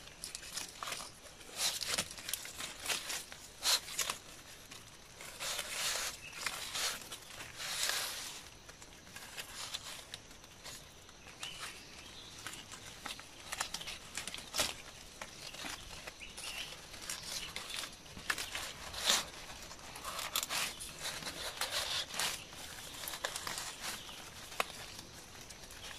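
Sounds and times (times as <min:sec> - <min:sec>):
palm leaves rustling and crackling: 0:00.0 - 0:25.9.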